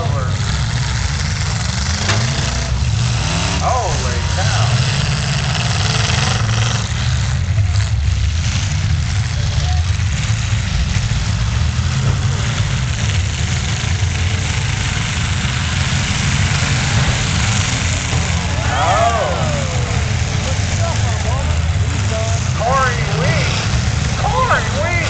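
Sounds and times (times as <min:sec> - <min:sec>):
truck engines rumbling: 0:00.0 - 0:25.0.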